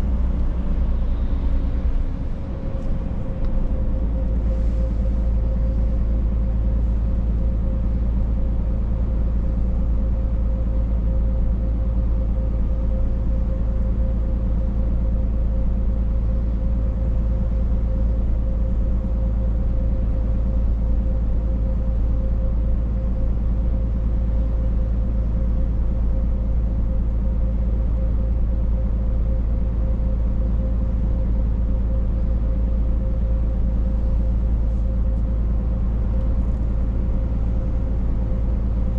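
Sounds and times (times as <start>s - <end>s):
steady whine: 0.0s - 19.5s, 22.7s - 38.9s
truck engine and road rumble: 0.0s - 38.9s.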